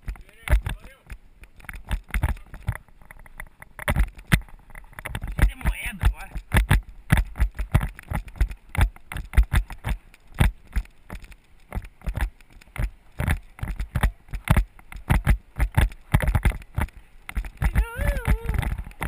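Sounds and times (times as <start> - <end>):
bicycle rattling over rough ground: 0.0 - 19.0.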